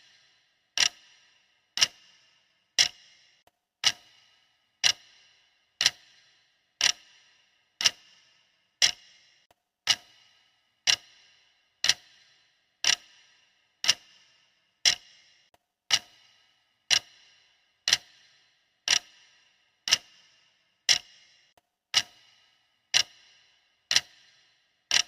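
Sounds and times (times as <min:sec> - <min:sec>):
clock ticking: 0:00.0 - 0:25.0.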